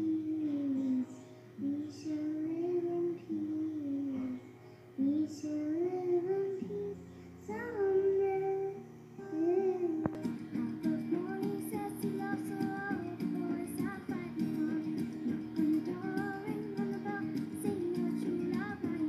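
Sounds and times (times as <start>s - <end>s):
acoustic guitar: 0.0s - 19.0s
girl singing: 0.0s - 19.0s.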